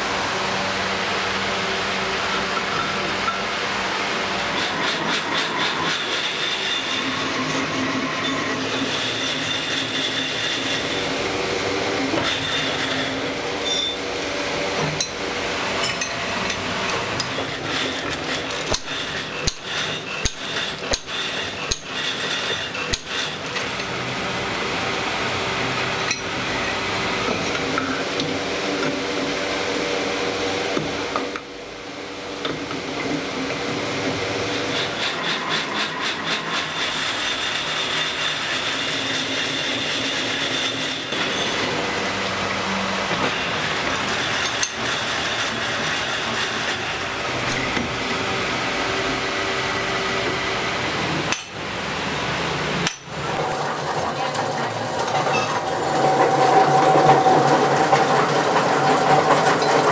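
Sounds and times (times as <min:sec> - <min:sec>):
metal lathe running: 0:00.0 - 0:59.9.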